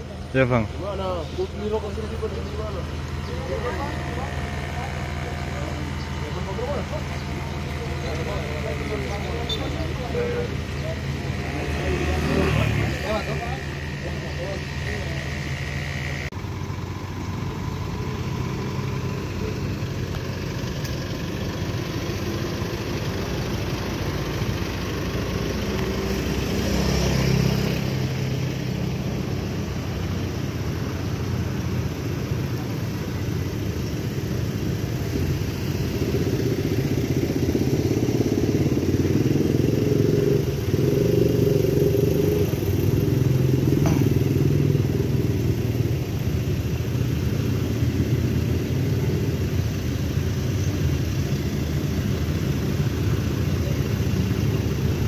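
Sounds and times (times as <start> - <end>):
vehicle engines rumbling: 0.0 - 55.0.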